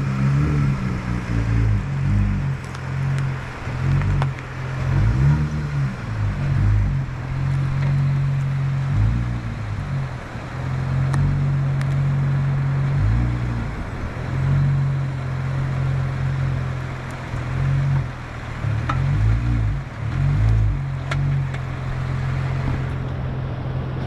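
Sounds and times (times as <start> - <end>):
jeep engine at low revs: 0.0 - 24.0
wind: 0.0 - 24.0.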